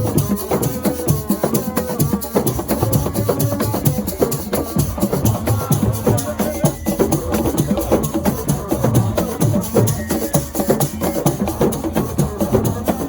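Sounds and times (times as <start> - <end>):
fast percussion drumming: 0.0 - 13.0.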